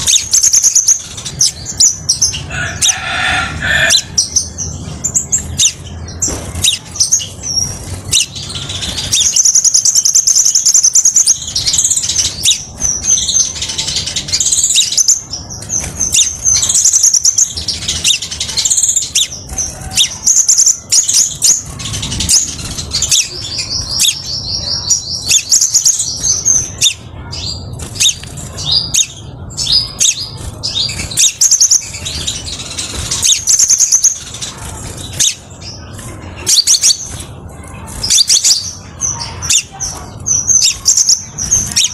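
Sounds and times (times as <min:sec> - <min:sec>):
bird singing high trills: 0:00.0 - 0:41.9.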